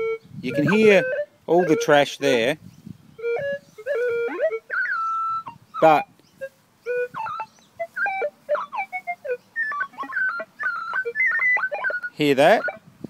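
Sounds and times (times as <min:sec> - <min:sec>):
metal detector beeps and chirps: 0:00.0 - 0:02.4, 0:03.2 - 0:12.8.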